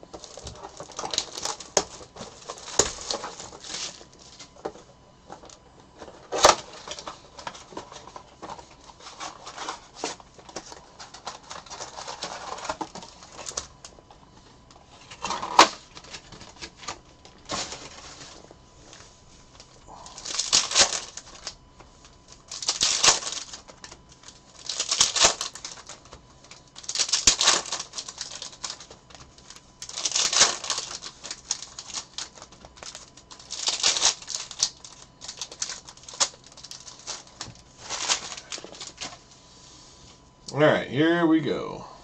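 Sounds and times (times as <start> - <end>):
card pack wrappers tearing and crinkling: 0.0 - 4.6, 5.3 - 14.0, 14.9 - 19.0, 19.6 - 39.2
cards rustling: 0.0 - 14.0, 14.8 - 39.3.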